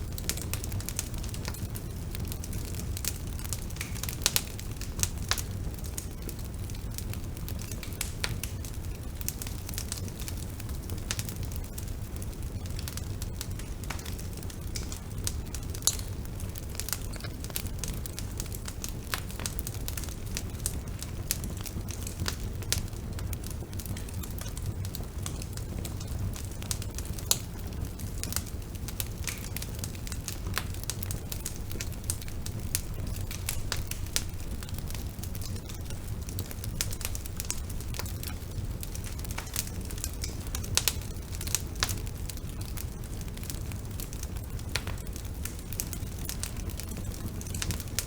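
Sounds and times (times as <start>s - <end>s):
burning wood crackling and popping: 0.0s - 48.0s
low rumble of flame: 0.0s - 48.0s.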